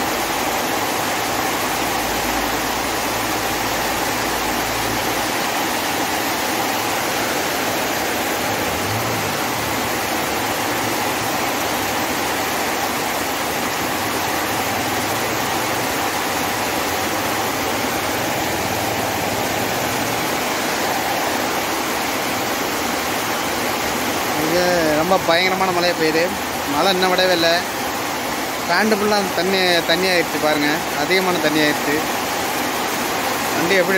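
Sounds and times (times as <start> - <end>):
heavy rain pouring: 0.0 - 33.9
runoff water streaming: 0.0 - 33.9.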